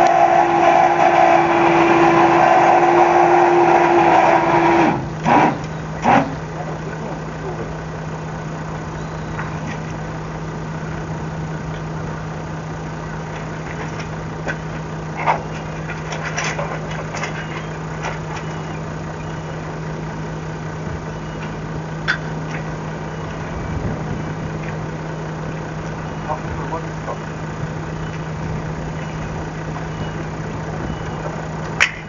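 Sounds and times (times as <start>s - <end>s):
boat engine idling: 0.0s - 32.0s.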